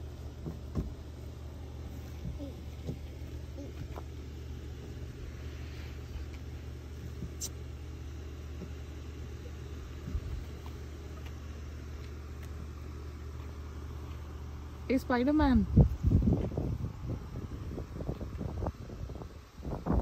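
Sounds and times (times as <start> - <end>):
engine-like low hum: 0.0 - 20.0.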